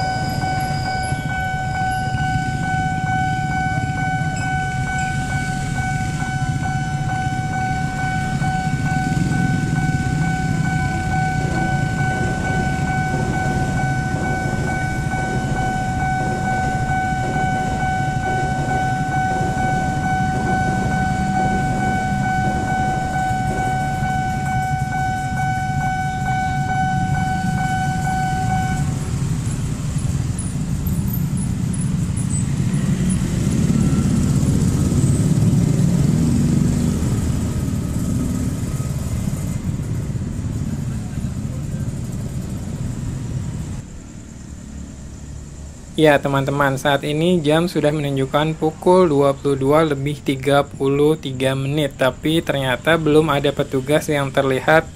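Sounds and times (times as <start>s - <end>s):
level crossing warning bell: 0.0s - 43.2s, 46.0s - 54.9s
passing train rumble: 0.0s - 54.9s.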